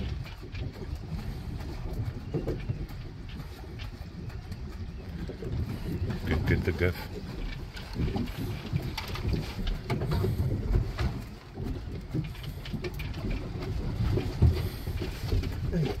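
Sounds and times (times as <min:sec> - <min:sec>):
sea noise: 0:00.0 - 0:16.0
wind rumbling on microphone: 0:00.0 - 0:16.0.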